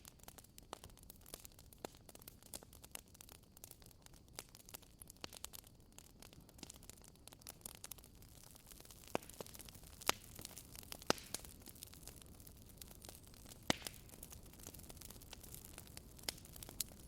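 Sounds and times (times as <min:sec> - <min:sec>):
hiss of burning logs: 0:00.0 - 0:17.0
wood fire crackling and popping: 0:00.0 - 0:17.0.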